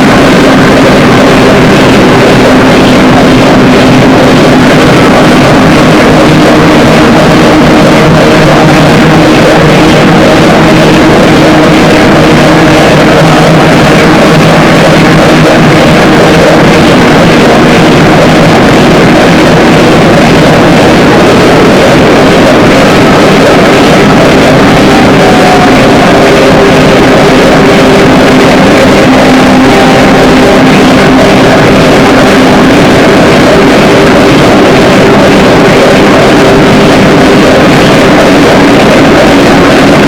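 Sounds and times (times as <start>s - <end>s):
distorted wall of noise: 0.0s - 40.0s
droning held tones: 0.0s - 40.0s.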